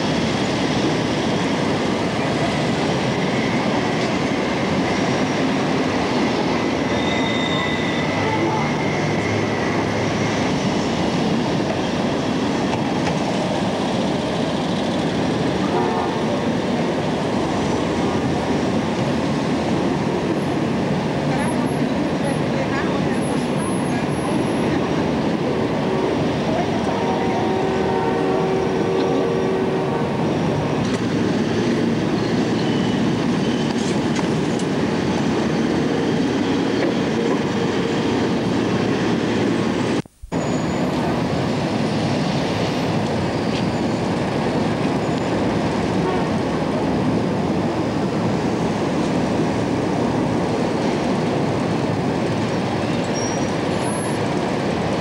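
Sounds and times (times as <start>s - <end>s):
rumble of city traffic: 0.0s - 55.0s.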